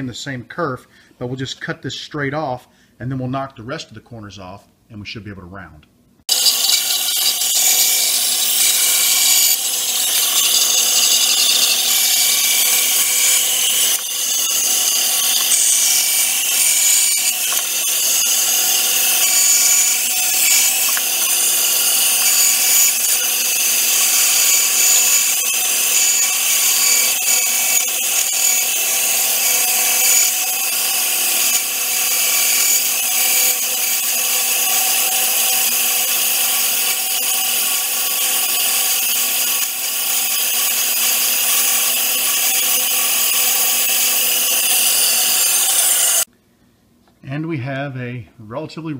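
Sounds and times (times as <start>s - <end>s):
bandsaw cutting wood: 6.3s - 46.3s.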